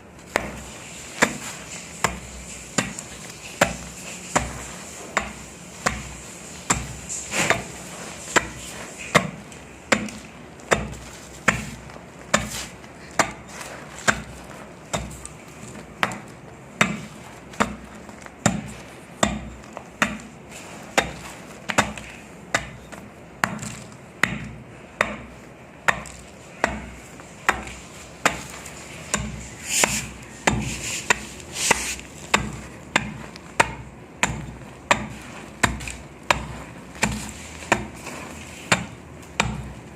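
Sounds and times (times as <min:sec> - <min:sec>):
dry sand crumbling: 0:00.0 - 0:39.9.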